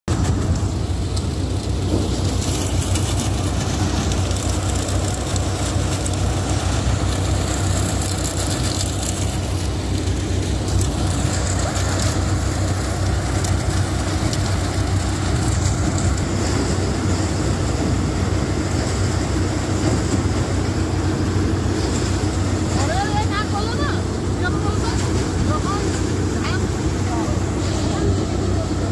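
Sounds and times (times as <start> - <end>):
continuous hiss: 0.1 - 28.9
threshing machine engine hum: 0.1 - 28.9.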